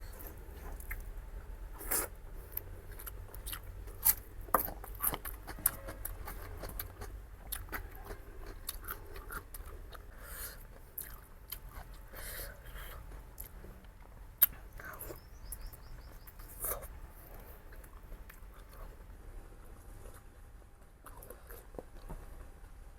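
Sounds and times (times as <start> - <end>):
wet chewing and smacking: 0.0 - 18.9, 20.0 - 22.2.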